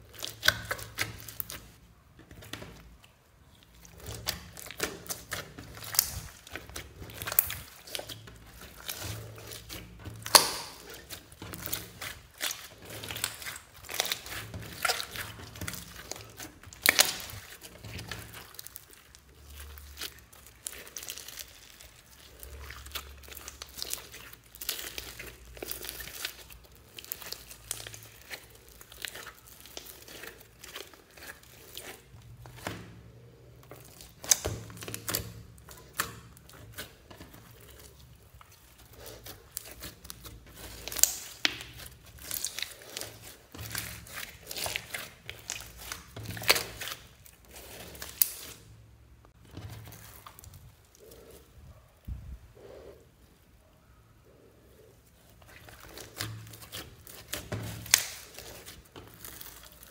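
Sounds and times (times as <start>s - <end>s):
slime crackling and popping: 0.0s - 51.5s, 55.1s - 59.9s.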